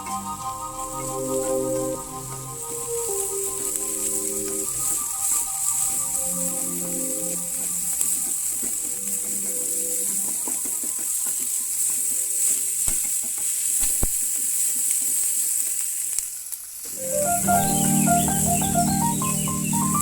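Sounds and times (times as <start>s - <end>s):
food sizzling in a pan: 0.7s - 20.0s.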